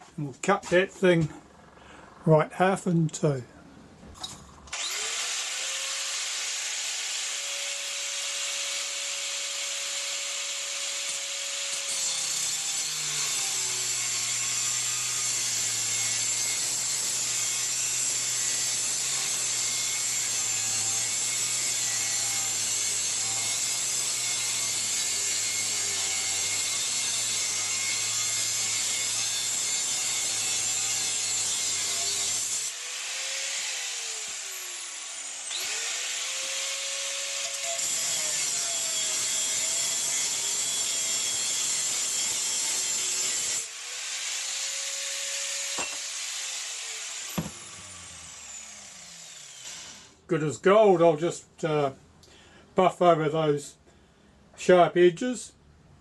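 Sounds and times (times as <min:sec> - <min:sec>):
angle grinder cutting steel: 0:04.7 - 0:50.2.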